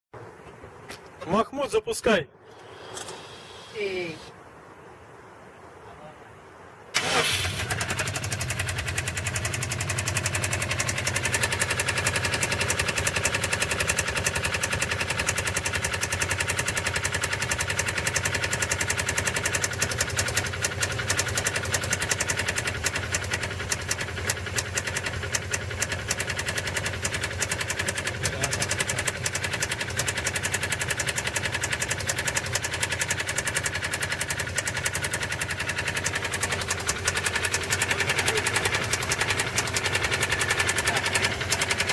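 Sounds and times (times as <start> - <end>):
car engine idling: 7.0 - 41.9
fast regular engine knock: 7.7 - 41.9.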